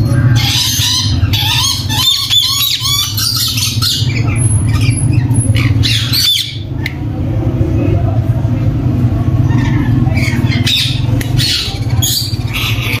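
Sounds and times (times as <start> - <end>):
parrots squawking: 0.0 - 7.0, 9.2 - 13.0.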